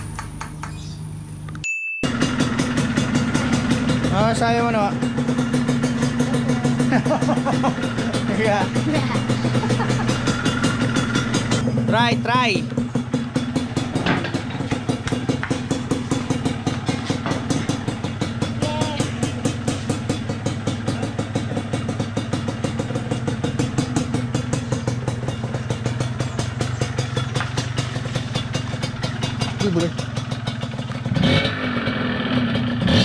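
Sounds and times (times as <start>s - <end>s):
two-stroke engine idling: 2.1s - 33.0s.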